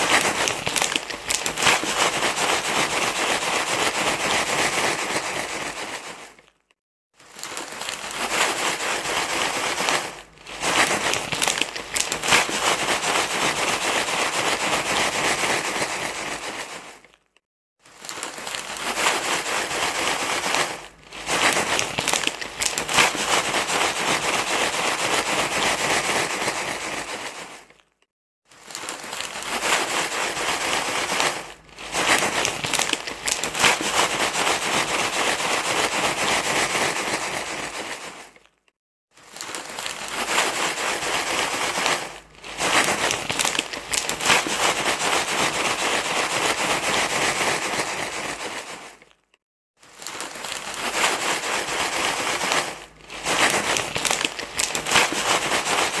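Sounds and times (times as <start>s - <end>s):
crackly rustling and crinkling: 0.0s - 56.0s.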